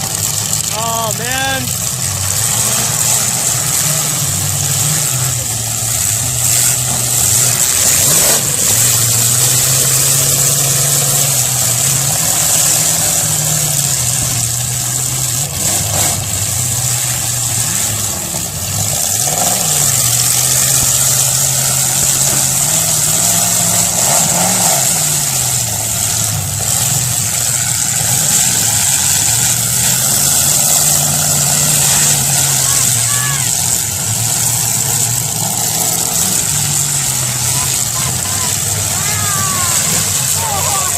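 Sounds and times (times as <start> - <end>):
car engines revving: 0.0 - 40.9.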